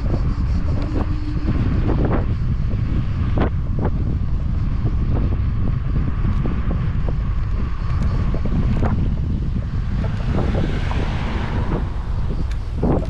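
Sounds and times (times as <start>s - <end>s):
loud low rumble: 0.0s - 13.0s
wind buffeting microphone: 0.0s - 13.0s.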